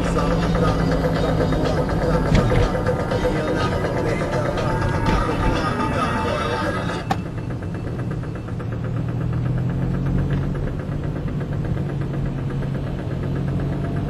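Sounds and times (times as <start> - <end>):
fast even ticking: 0.0 - 13.4
car engine drone in cabin: 0.0 - 14.0.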